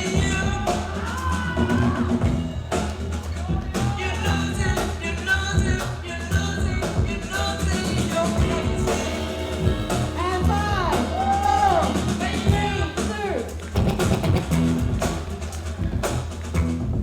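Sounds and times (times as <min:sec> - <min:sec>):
person singing: 0:00.0 - 0:14.6
heavy bass line: 0:00.0 - 0:17.0
steady drum beat: 0:00.0 - 0:17.0.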